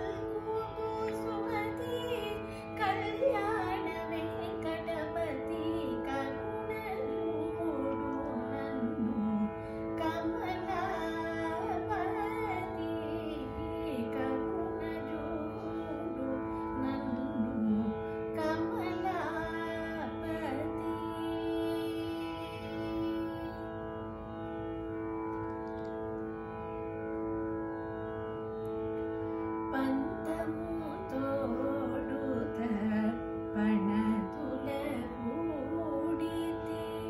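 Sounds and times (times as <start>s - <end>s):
woman singing: 0.0s - 23.7s, 29.7s - 37.0s
tanpura drone: 0.0s - 37.0s.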